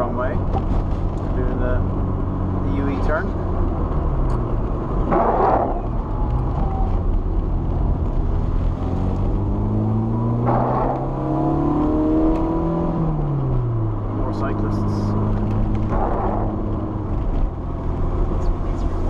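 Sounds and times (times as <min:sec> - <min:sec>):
car engine pulling: 0:00.0 - 0:19.0
road noise: 0:00.0 - 0:19.0.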